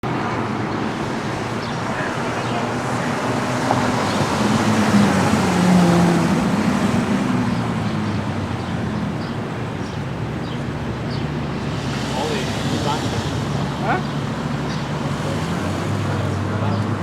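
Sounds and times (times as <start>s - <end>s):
car engine driving by: 0.0s - 17.0s
street traffic noise: 0.0s - 17.0s.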